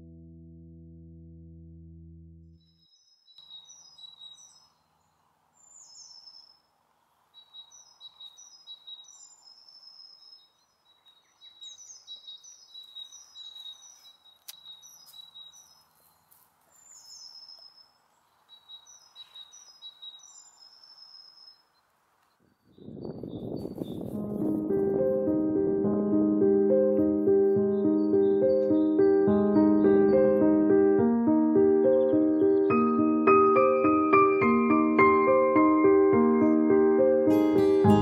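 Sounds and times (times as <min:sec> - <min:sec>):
faint songbirds singing: 0:02.6 - 0:25.2, 0:26.8 - 0:30.8, 0:31.6 - 0:35.8.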